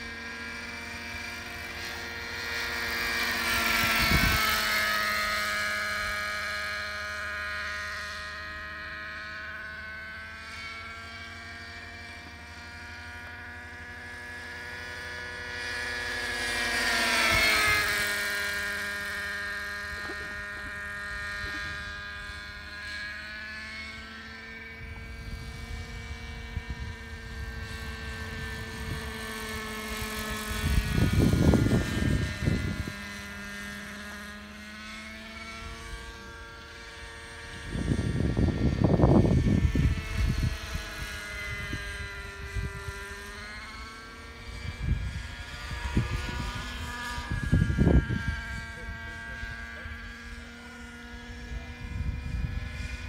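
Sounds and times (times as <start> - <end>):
model helicopter whine: 0.0 - 53.0.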